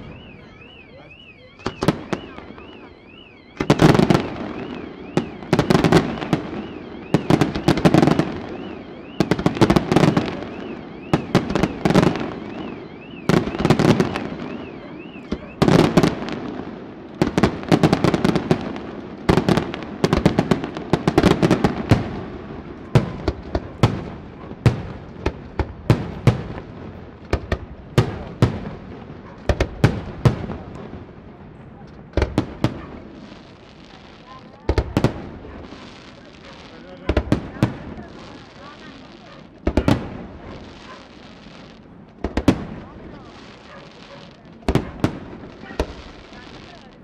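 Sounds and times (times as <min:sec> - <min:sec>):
fireworks booming and cracking: 0:00.0 - 0:47.0.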